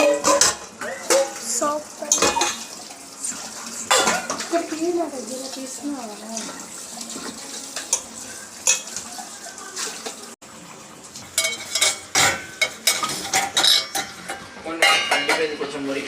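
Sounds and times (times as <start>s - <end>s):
dishes and utensils clattering: 0.0s - 10.4s, 11.2s - 16.0s.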